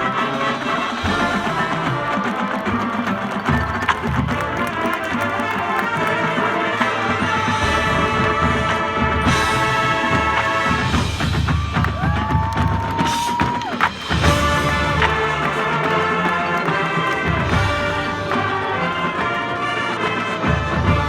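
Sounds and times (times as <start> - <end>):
marching band brass chords: 0.0 - 21.0.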